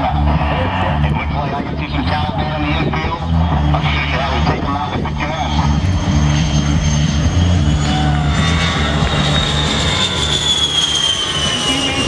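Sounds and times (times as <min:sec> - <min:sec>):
jet engines whining overhead: 0:00.0 - 0:12.0.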